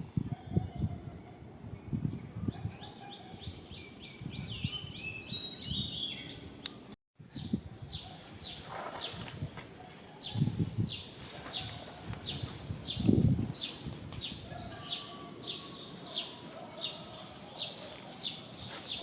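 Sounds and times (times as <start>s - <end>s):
birds chirping: 0.4s - 19.0s.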